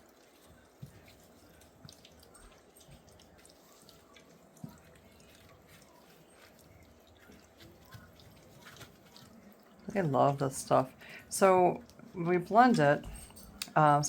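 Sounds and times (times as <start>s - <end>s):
puppies lapping food: 0.0s - 13.9s.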